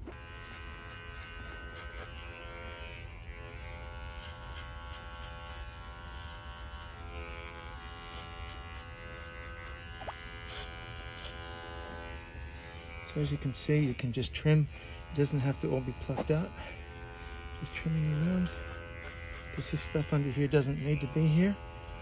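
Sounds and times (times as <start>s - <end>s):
electric pet clippers buzzing: 0.0s - 22.0s.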